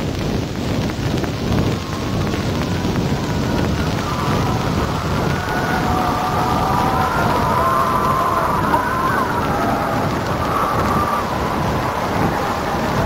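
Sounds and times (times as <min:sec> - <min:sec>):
rumbling rushing film noise: 0:00.0 - 0:13.0.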